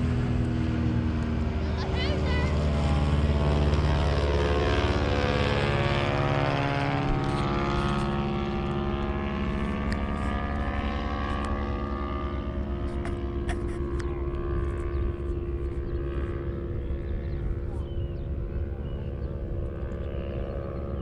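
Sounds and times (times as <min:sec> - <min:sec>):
propeller plane engine drone: 0:00.0 - 0:21.0.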